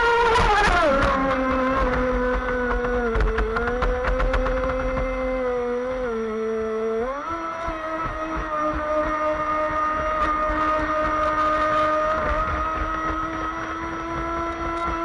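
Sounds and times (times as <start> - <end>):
toy speedboat motor whine: 0.0 - 15.0.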